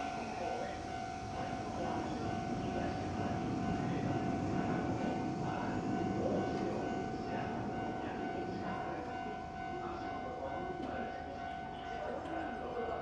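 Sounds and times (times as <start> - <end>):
steady high-pitched tone: 0.0 - 13.0
train wheels rumbling on rails: 0.0 - 13.0.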